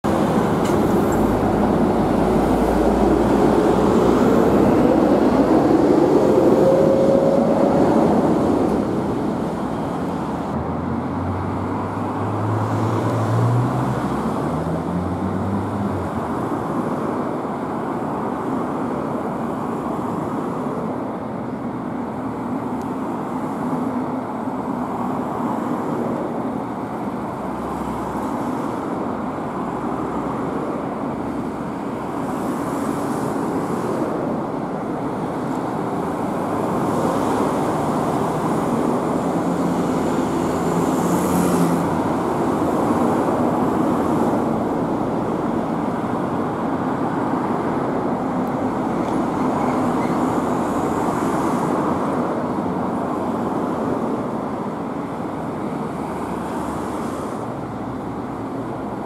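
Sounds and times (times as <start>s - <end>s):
traffic passing on city road: 0.0s - 59.0s.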